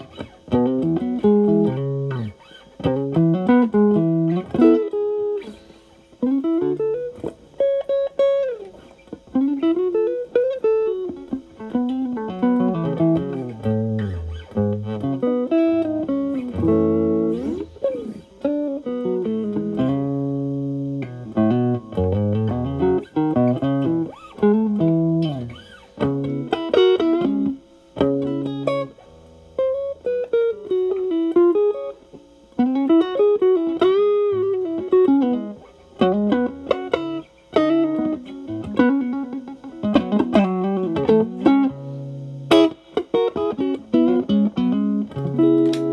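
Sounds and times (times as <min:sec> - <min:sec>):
overdriven electric guitar blues lead: 0:00.0 - 0:45.9.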